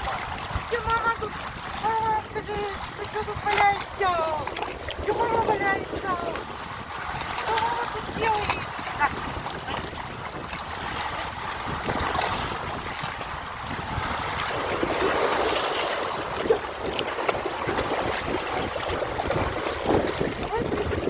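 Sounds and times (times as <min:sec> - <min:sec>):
sea waves washing ashore: 0:00.0 - 0:21.0
wind rumbling on microphone: 0:00.0 - 0:21.0.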